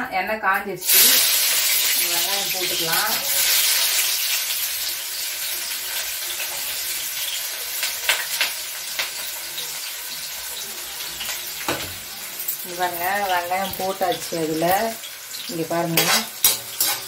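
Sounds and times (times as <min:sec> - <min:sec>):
onion sizzling in hot oil: 0:00.8 - 0:17.0.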